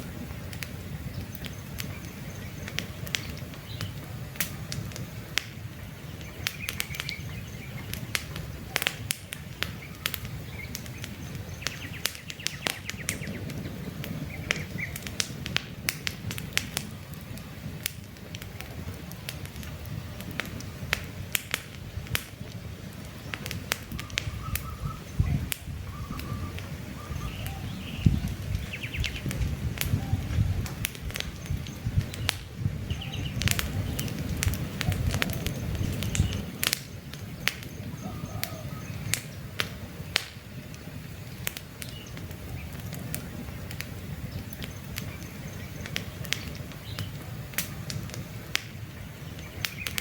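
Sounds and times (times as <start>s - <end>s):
campfire crackling and popping: 0.0s - 50.0s
birds chirping: 0.3s - 15.4s, 22.3s - 50.0s.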